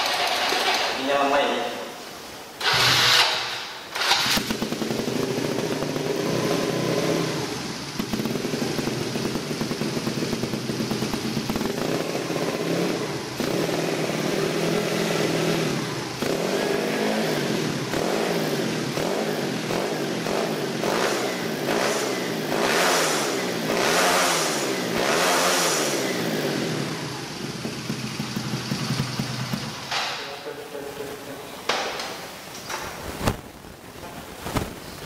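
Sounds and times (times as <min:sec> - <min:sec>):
motorcycle engine revving and idling: 0:00.0 - 0:00.9, 0:02.6 - 0:30.7.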